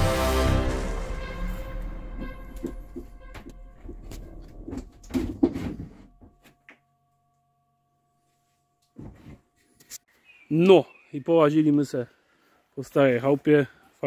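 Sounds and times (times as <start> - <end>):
faint steady tones: 1.4 - 12.8.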